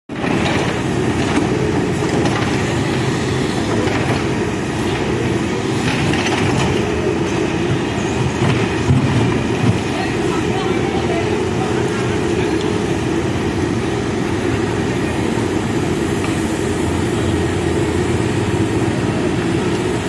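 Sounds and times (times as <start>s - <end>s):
diesel engine rumbling: 0.1s - 20.0s.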